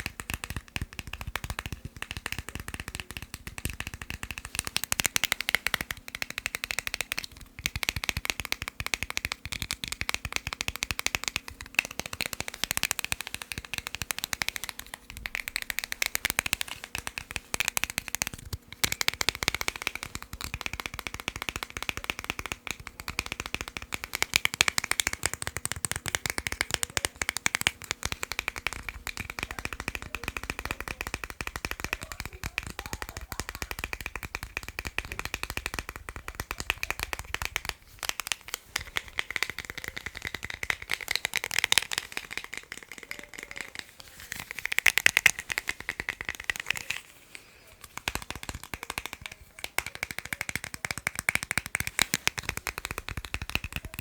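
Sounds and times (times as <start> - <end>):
fast tapping on small items: 0.0 - 54.0.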